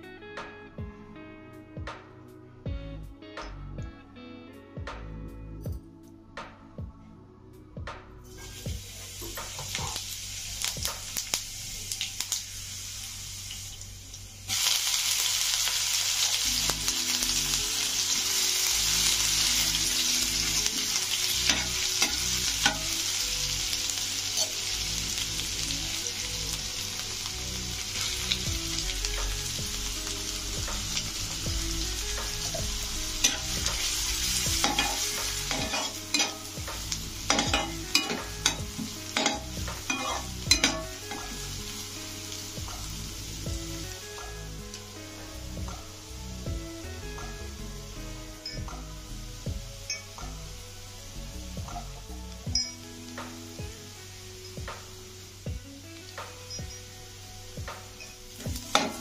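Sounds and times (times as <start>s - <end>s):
food sizzling in hot oil: 8.3s - 59.0s.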